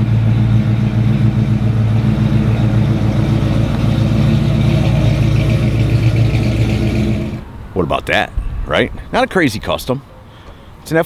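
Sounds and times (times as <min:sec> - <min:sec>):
truck engine running: 0:00.0 - 0:10.2.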